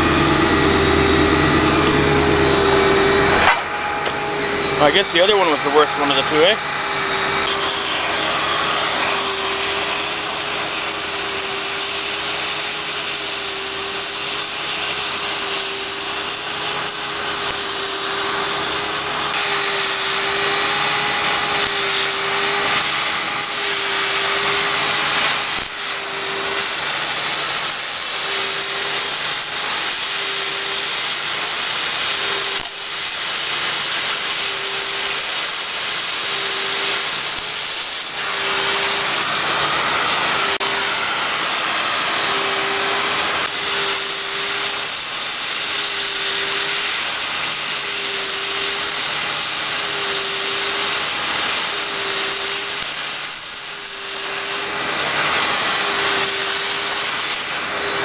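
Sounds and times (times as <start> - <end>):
power tool hissing and humming: 0.0 - 58.0.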